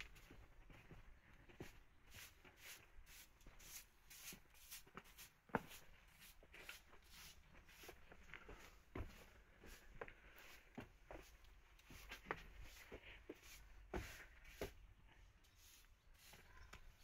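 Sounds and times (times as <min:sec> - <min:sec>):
faint footsteps scuffing on path: 0:00.0 - 0:14.9.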